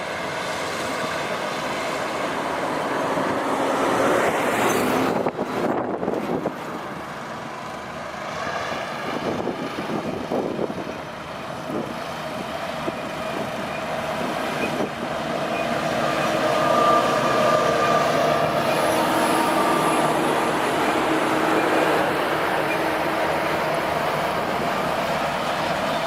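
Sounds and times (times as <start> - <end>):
heavy machine engine running: 0.0 - 26.0
steady whine: 0.7 - 26.0.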